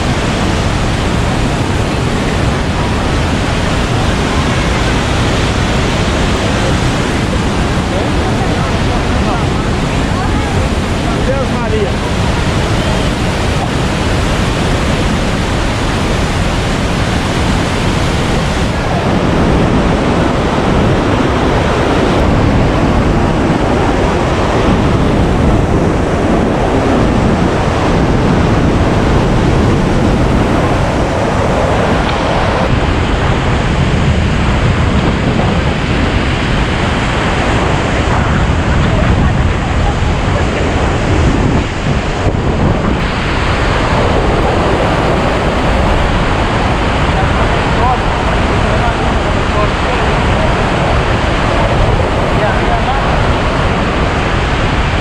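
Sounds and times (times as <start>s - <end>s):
roar of waterfall: 0.0s - 55.0s.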